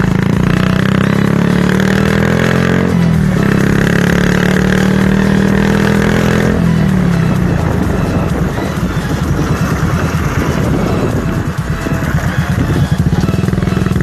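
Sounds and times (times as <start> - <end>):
motorcycle engine running loud: 0.0 - 14.0.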